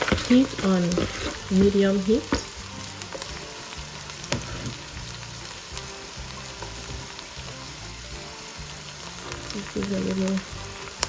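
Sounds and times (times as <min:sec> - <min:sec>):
okra sizzling in oil: 0:00.0 - 0:11.0.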